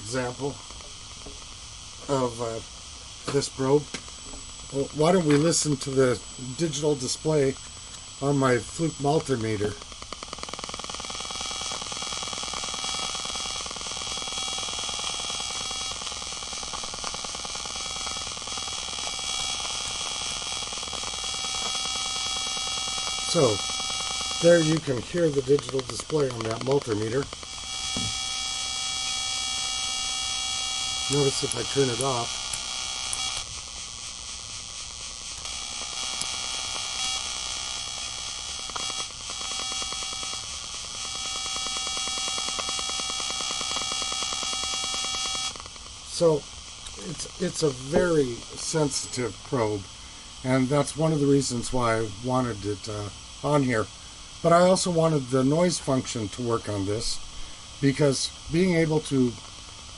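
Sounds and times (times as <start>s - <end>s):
pulsing electronic buzz: 0.0s - 59.9s.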